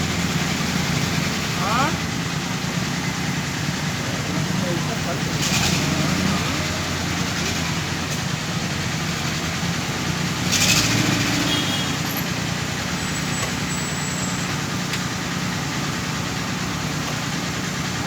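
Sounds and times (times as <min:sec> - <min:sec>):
diesel engines idling: 0:00.0 - 0:18.0.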